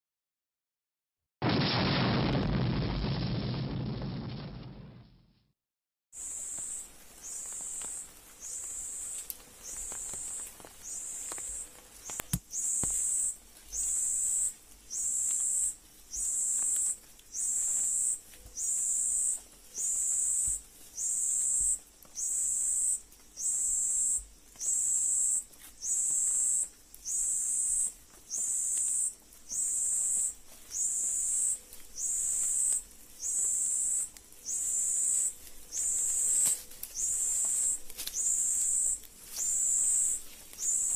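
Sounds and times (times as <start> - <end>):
insect buzzing pulses: 6.2 - 40.9.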